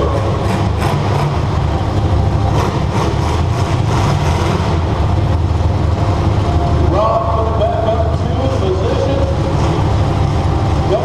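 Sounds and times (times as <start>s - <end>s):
loud car engine running: 0.0s - 11.0s.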